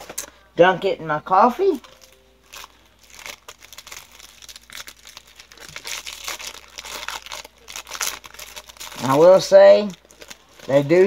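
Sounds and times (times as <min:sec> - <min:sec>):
foil pouch crinkling: 0:01.7 - 0:11.0.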